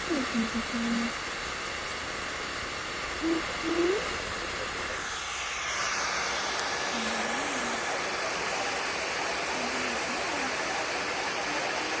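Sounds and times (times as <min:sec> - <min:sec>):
hairdryer blowing: 0:00.0 - 0:12.0.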